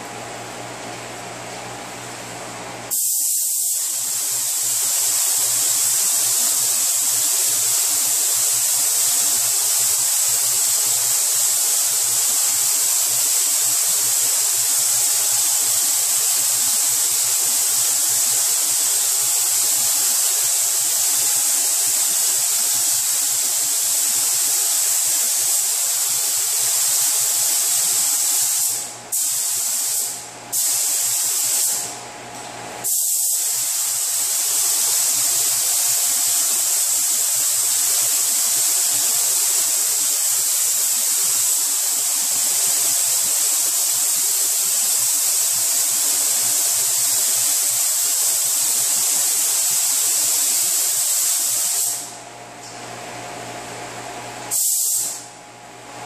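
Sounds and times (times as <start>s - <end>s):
paint spray gun hissing: 2.9s - 31.9s, 32.8s - 52.2s, 54.5s - 55.3s.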